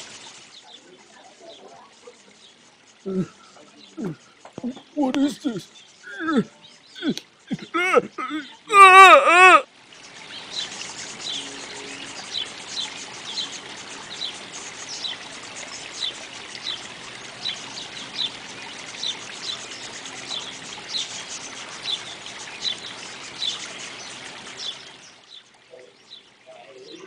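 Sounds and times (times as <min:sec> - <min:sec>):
small birds chirping: 0:00.0 - 0:27.0
trickling stream water: 0:00.0 - 0:27.0.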